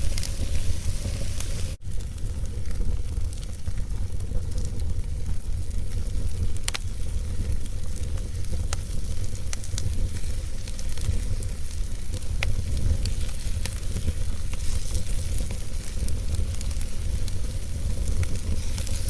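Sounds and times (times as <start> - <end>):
fire crackling and popping: 0.0 - 19.0
low rumble and hiss of flames: 0.0 - 19.0.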